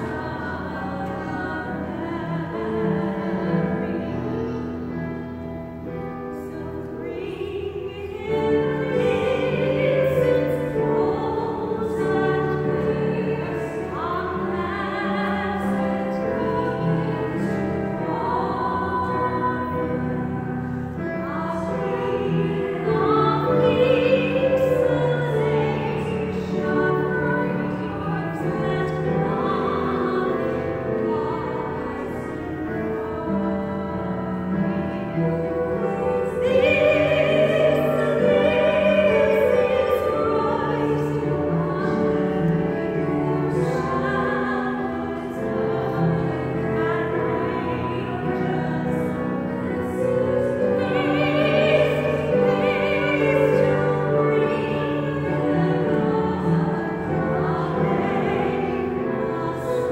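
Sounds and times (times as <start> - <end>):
woman and girl singing carol: 0.0 - 34.2, 34.8 - 59.9.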